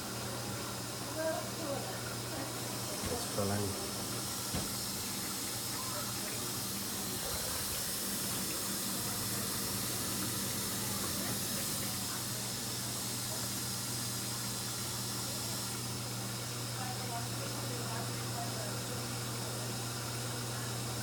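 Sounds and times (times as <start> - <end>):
running water hissing: 0.0 - 21.0
washing machine low hum: 0.0 - 21.0.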